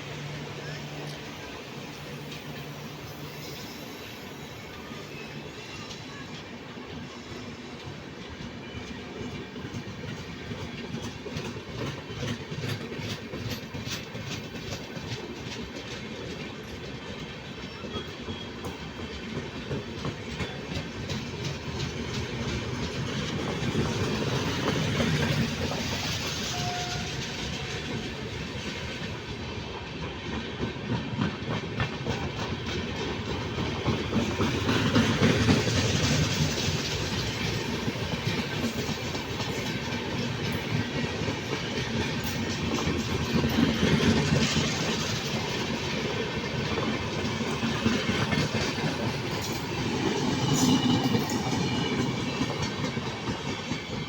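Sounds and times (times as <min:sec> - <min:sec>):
train wheels clattering on track: 0:00.0 - 0:54.0.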